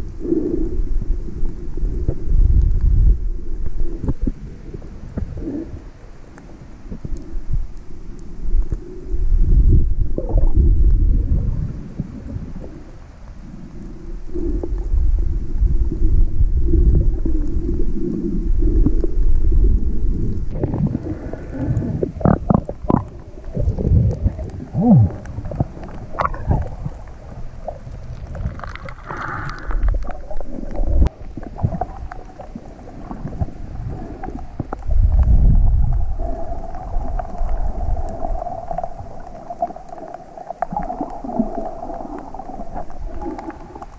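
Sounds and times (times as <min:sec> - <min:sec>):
underwater rumbling surge: 0:00.0 - 0:43.9
water gurgling and bubbling: 0:06.6 - 0:43.9.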